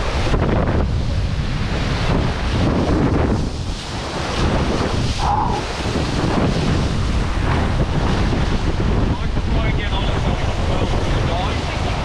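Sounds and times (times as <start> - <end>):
water rushing past hulls: 0.0 - 12.0
wind buffeting microphone: 0.0 - 12.0.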